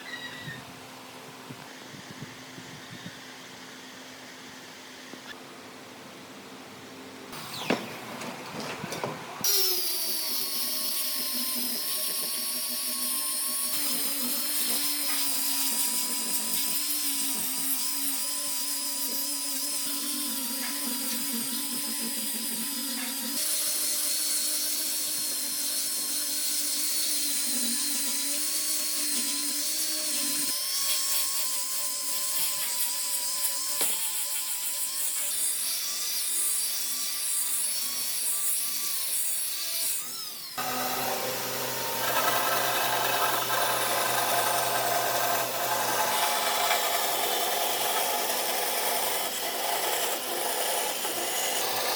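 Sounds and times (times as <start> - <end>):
power tool whining on wood: 7.3 - 8.3, 9.4 - 51.9.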